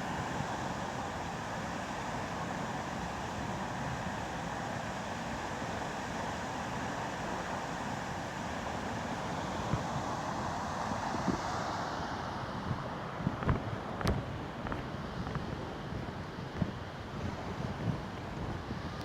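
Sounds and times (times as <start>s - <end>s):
wind and road noise on microphone: 0.0s - 19.0s.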